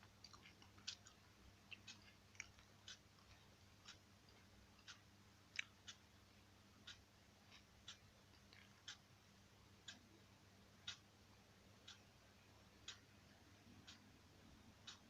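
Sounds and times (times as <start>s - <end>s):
clock ticking faintly: 0.0s - 15.0s
low room hum: 0.0s - 15.0s.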